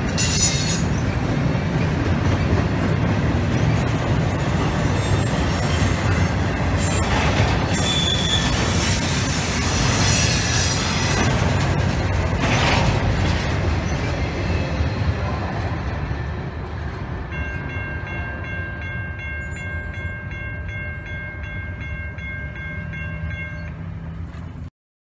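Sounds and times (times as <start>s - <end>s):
train wheels rumbling on rail: 0.0s - 24.7s.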